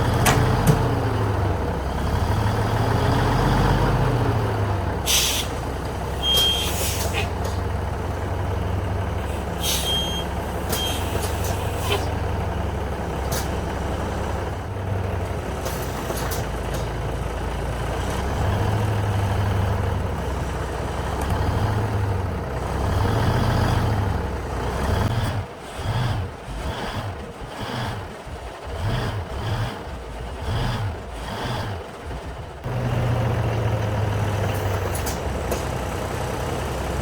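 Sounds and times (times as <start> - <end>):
diesel truck engine revving: 0.0 - 37.0.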